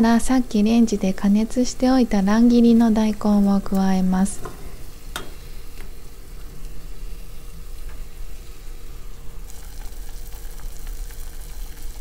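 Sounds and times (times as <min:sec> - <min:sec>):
broth bubbling and sizzling in pot: 0:00.0 - 0:12.0.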